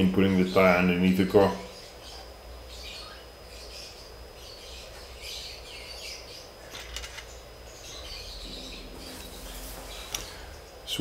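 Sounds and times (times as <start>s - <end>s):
low steady hum: 0.0s - 11.0s
faint bird chirps: 1.6s - 11.0s.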